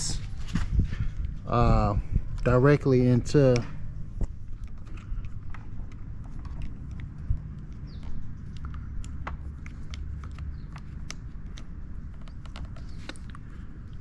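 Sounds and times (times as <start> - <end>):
low rumble: 0.0 - 12.3.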